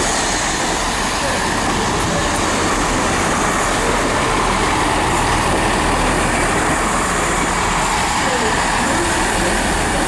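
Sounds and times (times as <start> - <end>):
diesel train running: 0.0 - 10.0.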